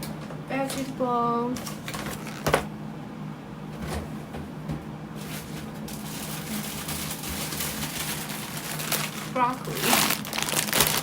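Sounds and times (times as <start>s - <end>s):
rustling and clicks in kitchen: 0.0s - 2.8s, 3.7s - 11.0s.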